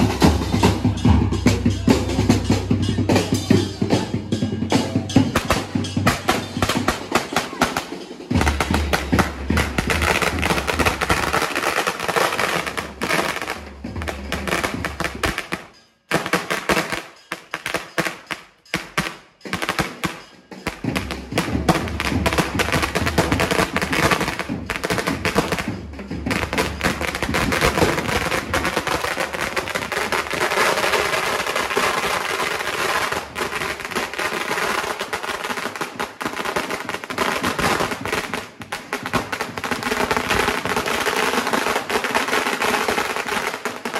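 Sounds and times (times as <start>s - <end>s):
firecracker string crackling: 0.0s - 43.9s.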